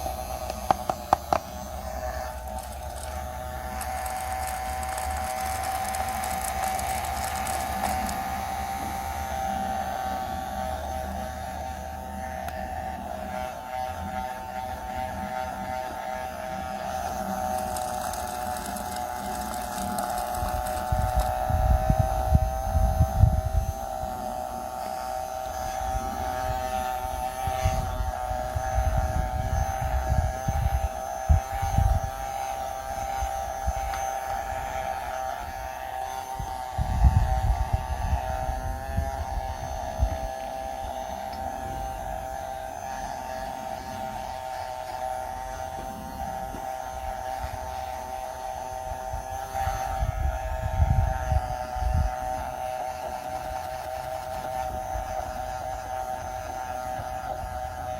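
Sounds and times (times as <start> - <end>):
small electric motor humming: 0.0 - 57.9.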